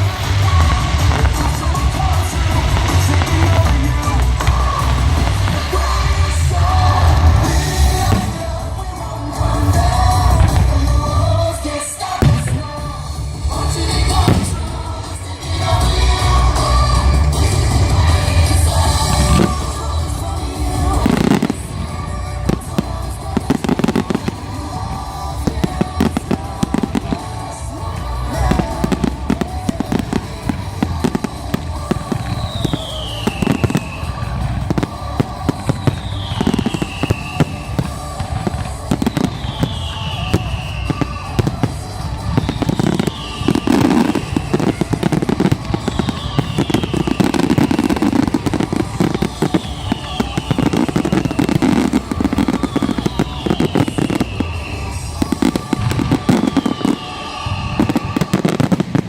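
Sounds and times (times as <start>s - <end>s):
fireworks bangs and crackling: 0.0s - 59.0s
music playing: 0.0s - 59.0s.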